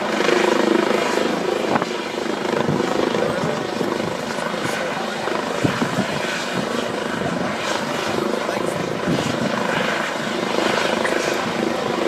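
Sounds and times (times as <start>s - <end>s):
helicopter rotor and turbine: 0.0s - 12.0s.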